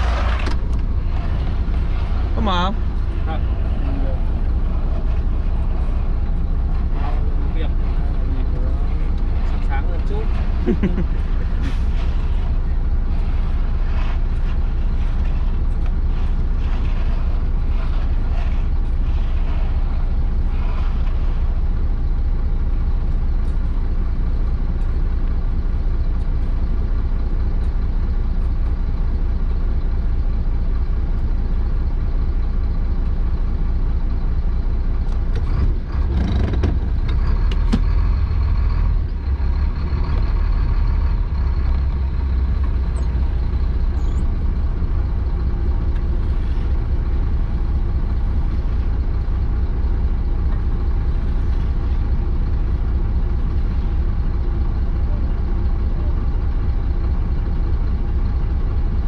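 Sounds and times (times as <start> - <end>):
diesel engine rumble: 0.0 - 59.0.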